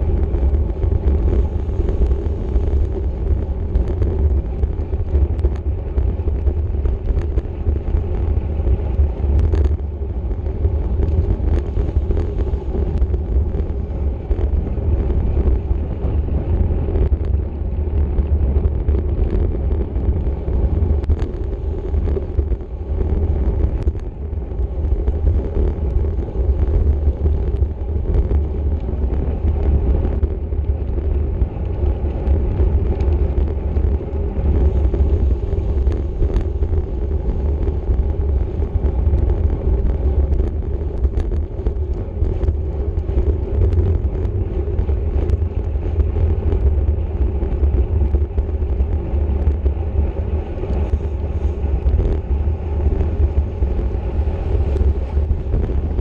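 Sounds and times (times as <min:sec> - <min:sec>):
tyre and road noise: 0:00.0 - 0:56.0
wind buffeting microphone: 0:00.0 - 0:56.0.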